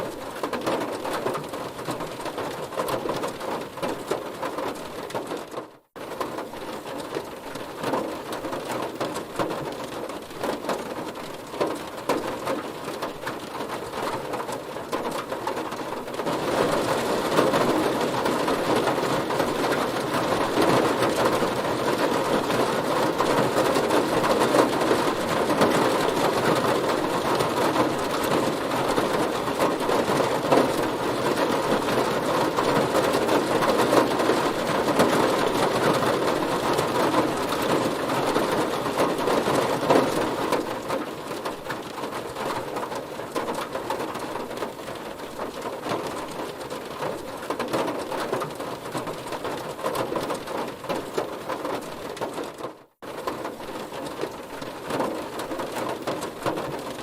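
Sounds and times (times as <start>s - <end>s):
heavy rain on a car roof: 0.0s - 57.0s.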